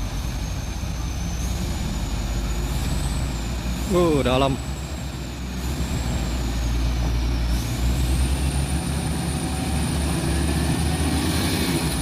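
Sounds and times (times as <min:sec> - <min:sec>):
truck diesel engine under load: 0:00.0 - 0:12.0.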